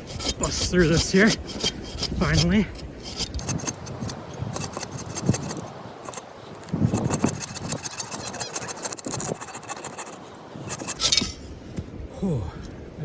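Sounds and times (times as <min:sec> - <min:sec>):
hand saw cutting wood: 0:00.0 - 0:11.2.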